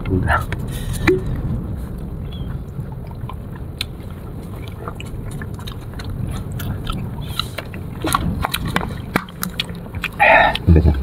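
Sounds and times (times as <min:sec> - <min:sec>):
low rumble: 0:00.0 - 0:11.0
person chewing fruit crunching: 0:02.0 - 0:11.0.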